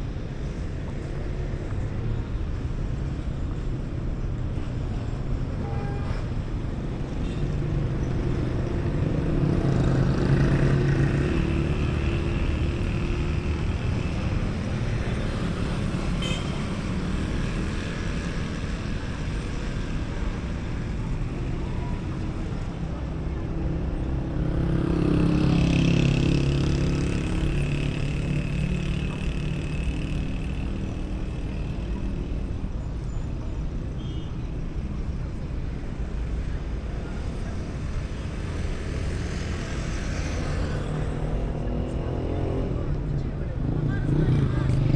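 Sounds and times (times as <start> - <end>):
traffic rumble: 0.0 - 44.9.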